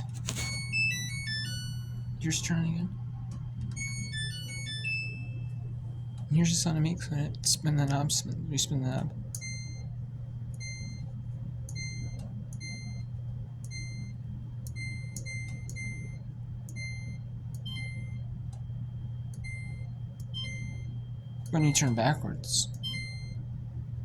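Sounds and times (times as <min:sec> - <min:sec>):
dryer control panel beeping: 0:00.0 - 0:02.8, 0:03.6 - 0:06.8, 0:08.8 - 0:23.5.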